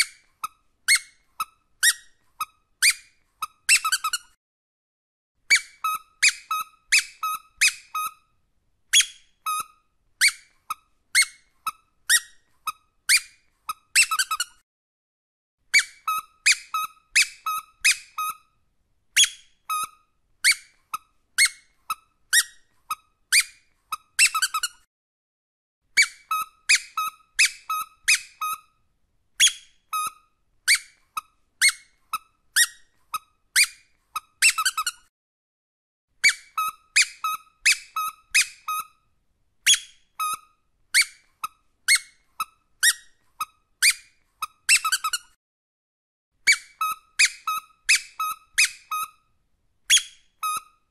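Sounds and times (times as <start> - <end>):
squeaky dog toy squeaking: 0.0 - 4.4, 5.4 - 14.6, 15.7 - 18.6, 19.2 - 24.9, 25.9 - 28.8, 29.4 - 35.1, 36.2 - 45.4, 46.4 - 50.9.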